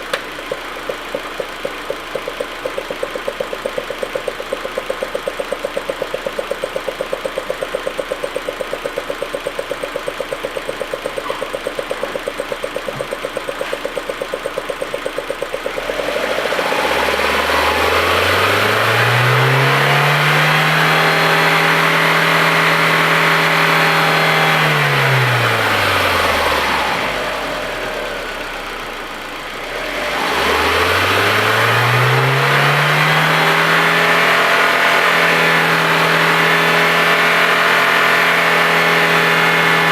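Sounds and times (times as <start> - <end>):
car engine idling roughly: 0.0 - 39.9
car engine revving: 0.4 - 39.9.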